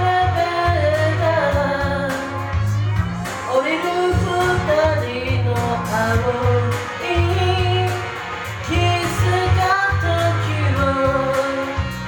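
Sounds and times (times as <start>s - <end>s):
pop-rock band backing: 0.0s - 12.0s.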